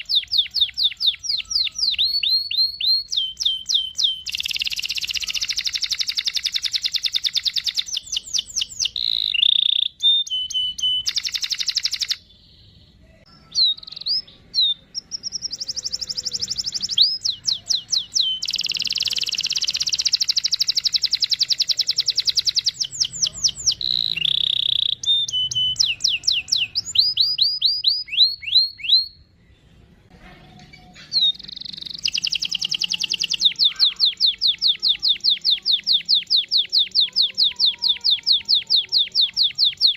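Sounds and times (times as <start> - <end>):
canary singing trills: 0.0 - 29.6, 30.5 - 39.9
canary chirps: 0.0 - 39.9.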